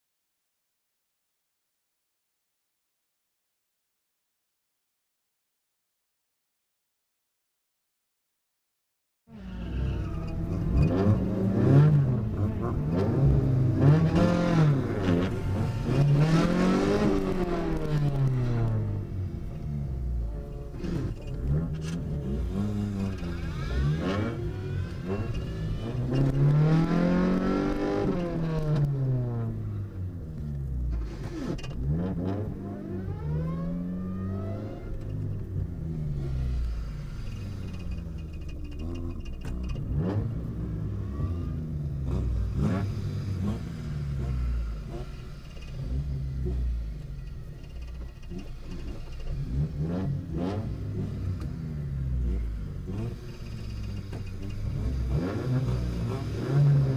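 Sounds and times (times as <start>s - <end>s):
car engine revving: 9.3s - 56.9s.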